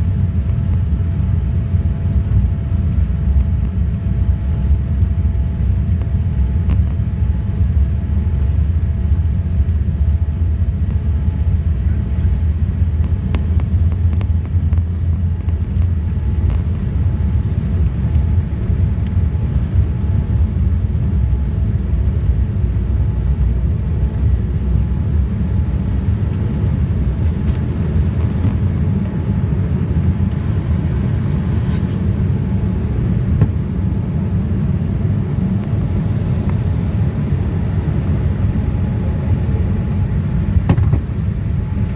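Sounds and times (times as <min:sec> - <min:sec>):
faint hum: 0:00.0 - 0:41.9
jet engine and airflow rumble: 0:00.0 - 0:41.9.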